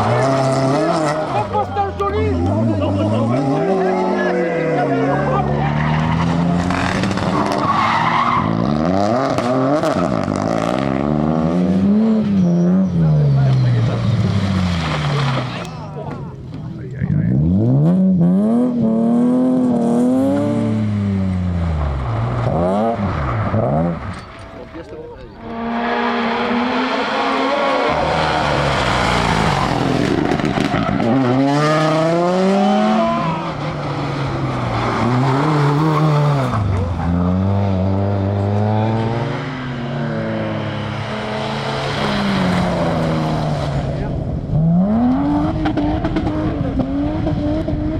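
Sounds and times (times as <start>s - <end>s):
rally car engine revving: 0.0s - 47.9s
tyres skidding: 0.0s - 47.9s.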